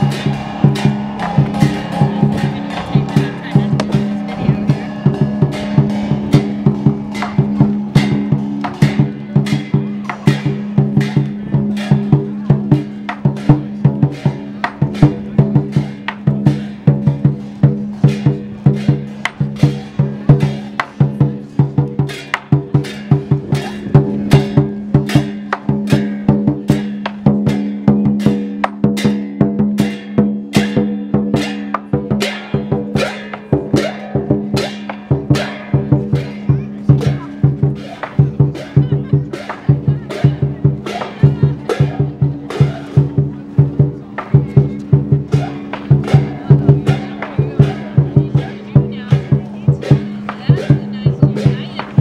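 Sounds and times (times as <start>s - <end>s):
cymbals clashing: 0.0s - 52.0s
large drum beaten with sticks: 0.0s - 52.0s.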